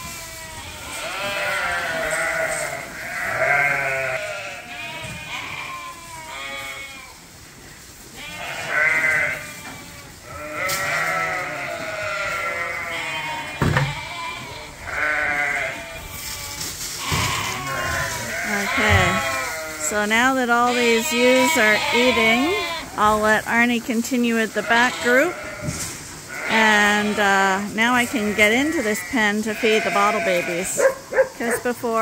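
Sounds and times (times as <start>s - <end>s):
sheep bleating: 0.0s - 7.2s, 8.2s - 23.4s, 24.0s - 32.0s.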